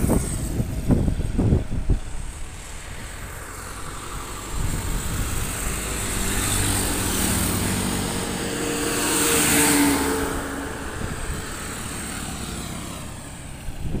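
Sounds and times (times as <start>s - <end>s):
trucks driving past: 0.0s - 14.0s.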